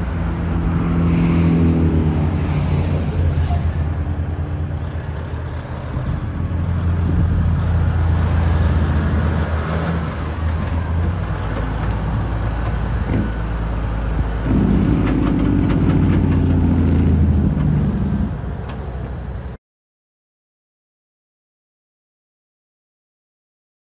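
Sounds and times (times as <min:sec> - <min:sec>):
truck diesel engine driving past: 0:00.0 - 0:19.6.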